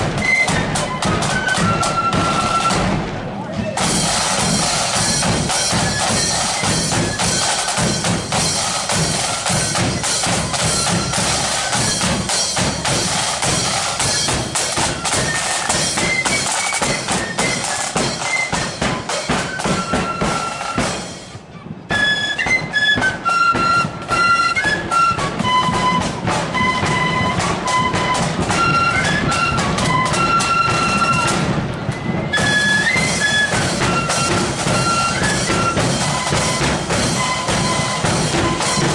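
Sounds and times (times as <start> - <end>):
flute melody: 0.0 - 38.9
side drums beating: 0.0 - 38.9.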